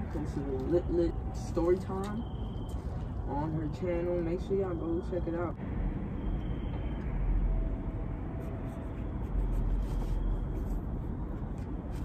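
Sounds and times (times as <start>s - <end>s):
low rumble: 2.2s - 12.0s.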